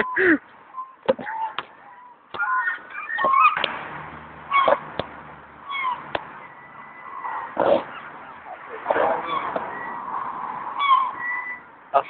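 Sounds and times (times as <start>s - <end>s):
gulls squawking: 0.0s - 3.8s, 4.4s - 11.8s.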